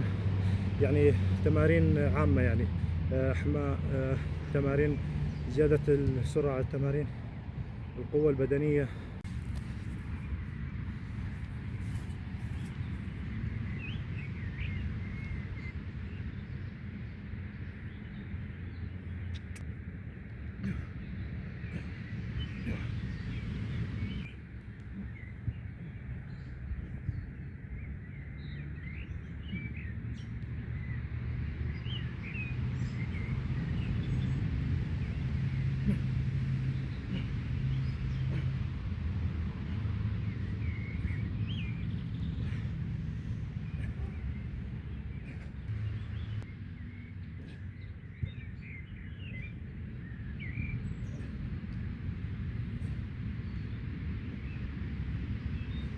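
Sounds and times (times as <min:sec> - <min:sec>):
low outdoor rumble: 0:00.0 - 0:55.9
small birds chirping: 0:00.0 - 0:55.9
steady low hum: 0:00.0 - 0:55.9.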